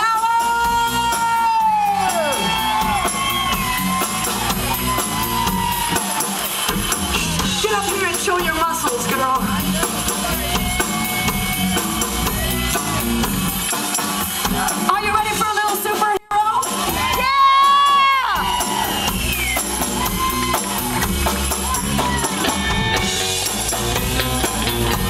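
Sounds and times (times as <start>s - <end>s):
electric guitars and bass: 0.0s - 15.7s, 16.4s - 25.0s
drum kit beat: 0.0s - 25.0s.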